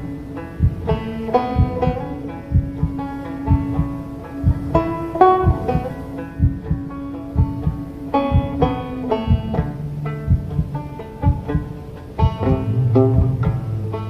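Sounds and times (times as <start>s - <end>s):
banjo picking: 0.0s - 14.0s.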